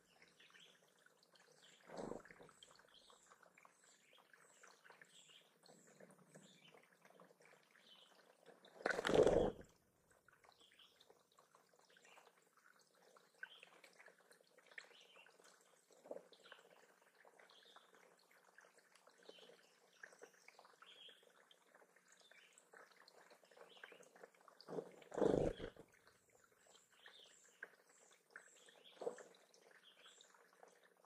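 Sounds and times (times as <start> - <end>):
small birds chirping: 0.0 - 9.7, 10.4 - 31.0
waterfall trickling into pond: 0.0 - 31.0.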